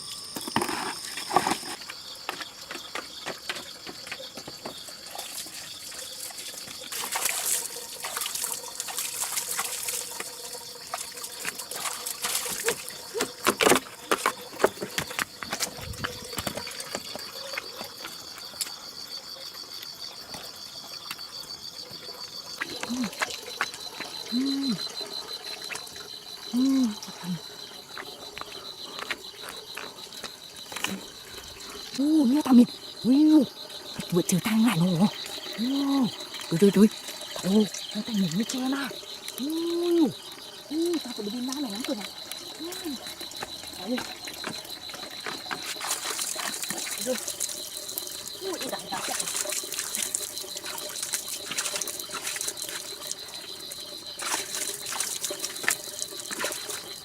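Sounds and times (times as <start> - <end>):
insect trilling: 0.0 - 57.0
water trickling and splashing: 0.0 - 57.0.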